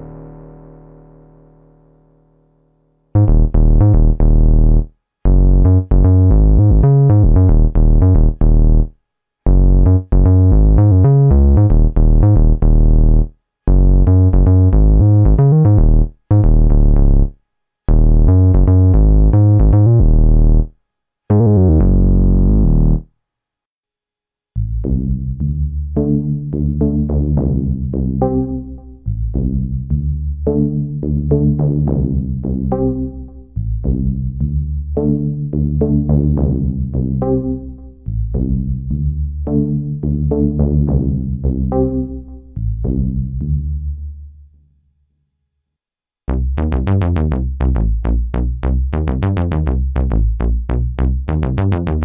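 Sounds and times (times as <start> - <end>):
synthesizer deep bass notes: 0.0 - 8.9, 9.5 - 20.7, 21.3 - 23.1, 24.6 - 44.4, 46.3 - 52.0.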